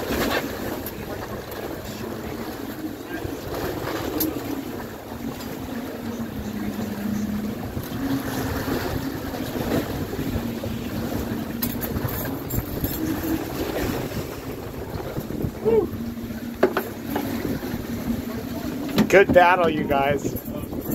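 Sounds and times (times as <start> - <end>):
boat engine humming: 0.0 - 20.9
water splashing and churning: 0.0 - 20.9
wind buffeting microphone: 0.0 - 20.9.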